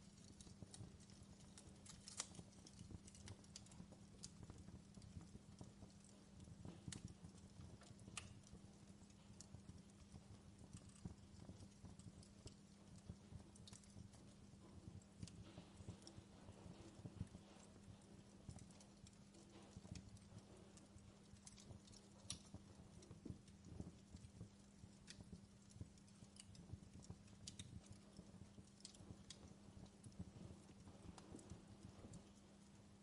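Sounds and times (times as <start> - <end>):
fireplace crackling: 0.0 - 33.0
steady low hum: 0.0 - 33.0.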